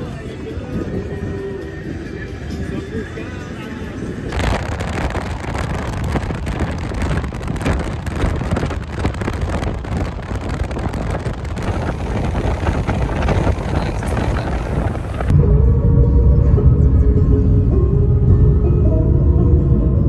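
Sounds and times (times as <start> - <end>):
road and engine rumble: 0.0 - 20.0
wind buffeting microphone: 0.0 - 20.0.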